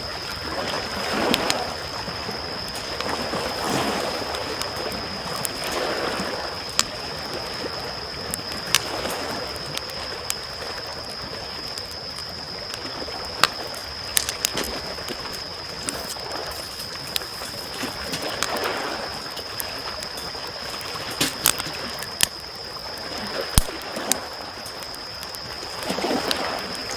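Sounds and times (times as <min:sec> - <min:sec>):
campfire crackling: 0:00.0 - 0:26.9
small waves washing onto shore: 0:00.0 - 0:26.9.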